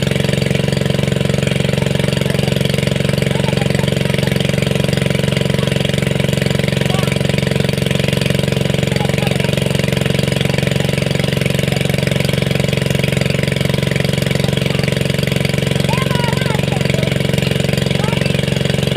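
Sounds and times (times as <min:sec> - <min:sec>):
small engine running: 0:00.0 - 0:18.9.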